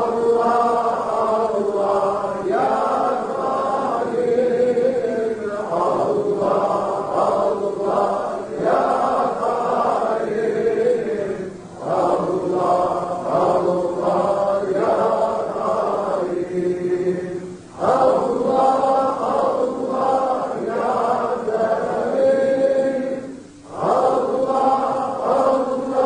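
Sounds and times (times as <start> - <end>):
men chanting: 0.0 - 26.0.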